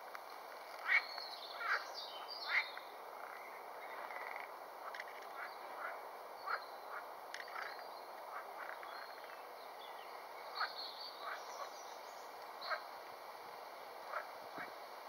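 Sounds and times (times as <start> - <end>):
small birds chirping faintly: 0.0 - 15.0
frogs croaking: 0.7 - 13.1, 13.9 - 15.0.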